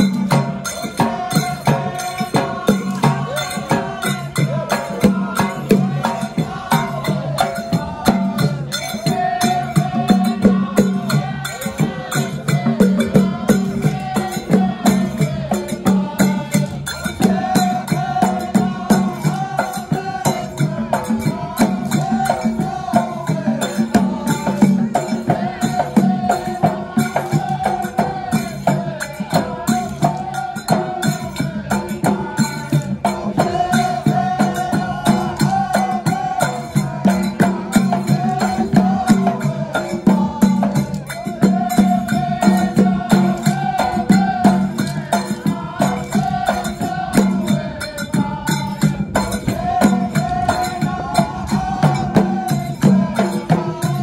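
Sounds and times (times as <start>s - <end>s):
drums and hand percussion: 0.0s - 54.0s
men chanting: 0.0s - 54.0s.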